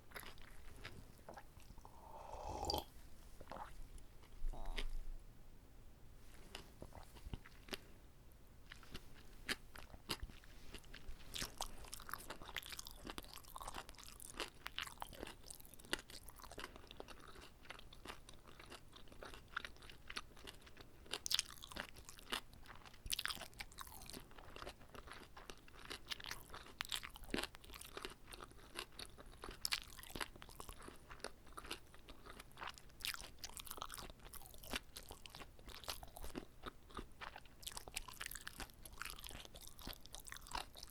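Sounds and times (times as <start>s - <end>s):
chewing and mouth smacks: 0.1s - 5.0s, 8.7s - 40.9s.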